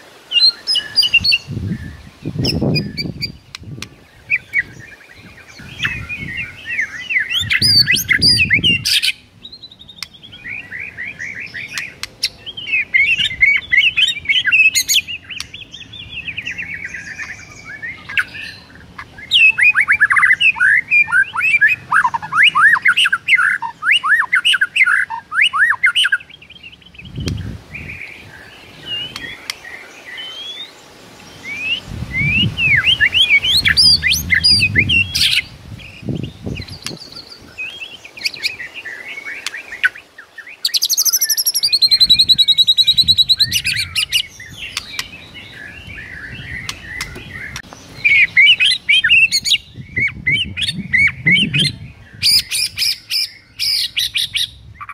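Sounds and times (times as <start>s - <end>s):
bird singing whistles and chatter: 0.3s - 30.8s, 31.4s - 54.9s.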